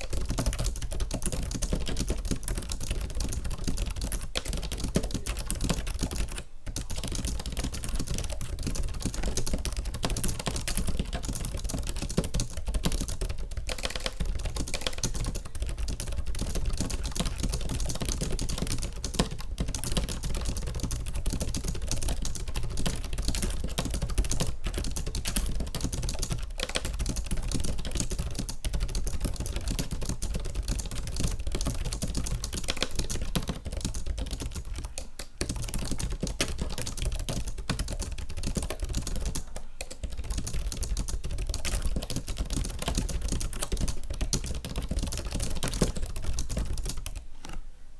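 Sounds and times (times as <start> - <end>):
fast typing on keyboard: 0.0 - 47.6.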